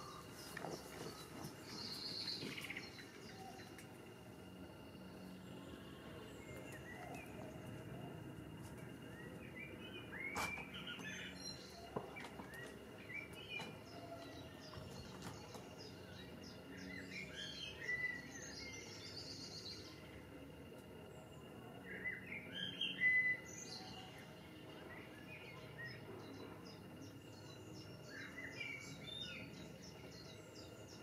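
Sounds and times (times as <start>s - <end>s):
low background noise: 0.0s - 31.0s
small birds chirping: 0.0s - 31.0s.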